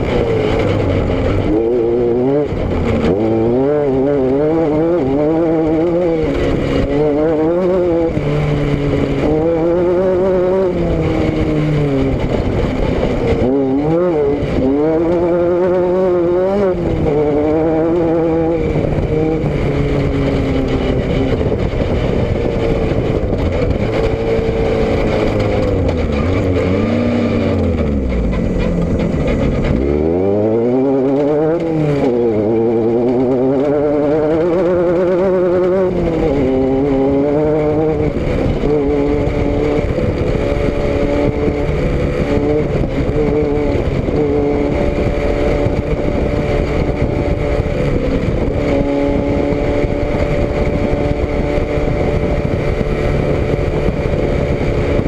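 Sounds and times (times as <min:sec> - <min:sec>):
vehicle engine running loudly: 0:00.0 - 0:55.0.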